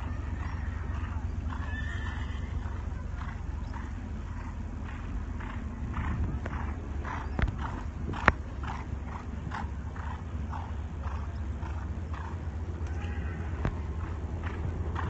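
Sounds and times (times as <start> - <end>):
horse cantering on sand: 0.0 - 15.0.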